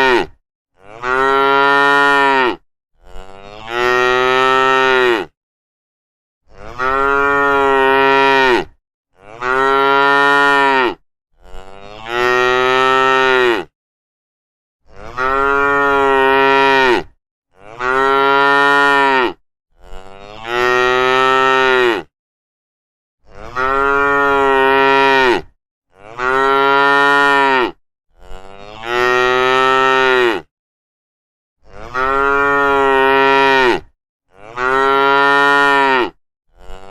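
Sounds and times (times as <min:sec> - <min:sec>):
cows mooing: 0:00.0 - 0:05.3, 0:06.5 - 0:13.7, 0:14.9 - 0:22.1, 0:23.3 - 0:30.5, 0:31.7 - 0:36.9.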